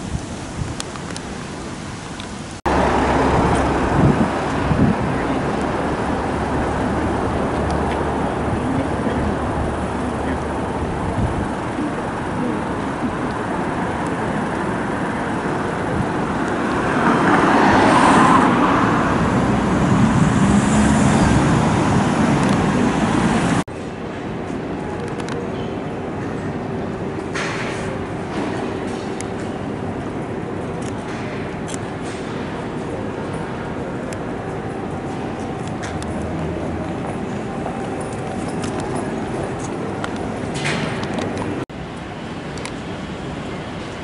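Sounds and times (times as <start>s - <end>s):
cars passing on street: 0.0s - 44.0s.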